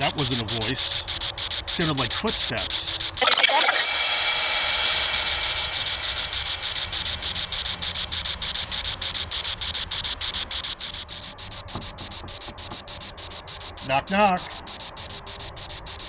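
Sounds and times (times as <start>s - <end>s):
crickets chirping: 0.0s - 16.0s
faint ringing tone: 0.0s - 16.0s.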